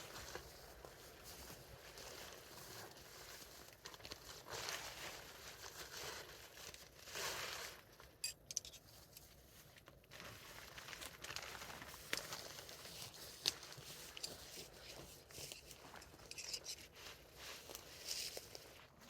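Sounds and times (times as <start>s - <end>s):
nylon fabric rustling: 0.0s - 8.3s, 9.0s - 19.0s.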